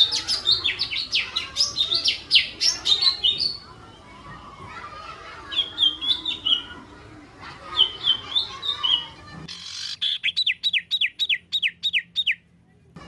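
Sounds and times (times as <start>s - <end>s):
songbird chirping: 0.0s - 12.5s.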